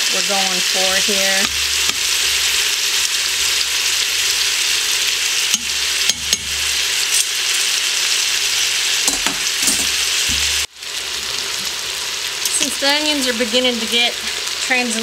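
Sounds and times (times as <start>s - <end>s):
chicken and onion sizzling in oil: 0.0s - 15.0s.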